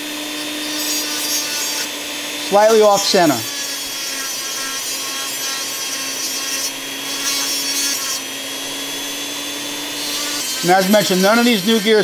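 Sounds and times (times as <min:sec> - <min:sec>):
cutoff wheel grinding metal: 0:00.0 - 0:12.0
rotary tool motor whine: 0:00.0 - 0:12.0.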